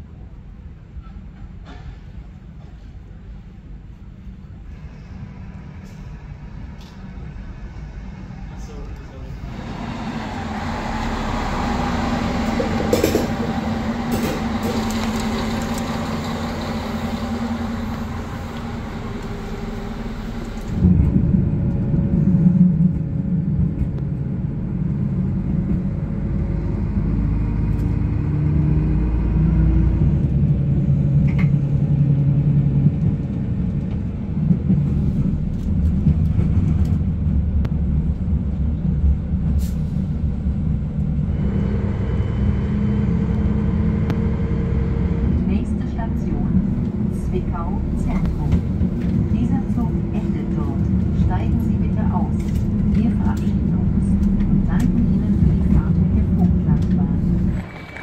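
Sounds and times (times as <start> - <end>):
deeper duller rumble: 0.0 - 58.0
diesel railcar rumbling on rails: 0.0 - 58.0.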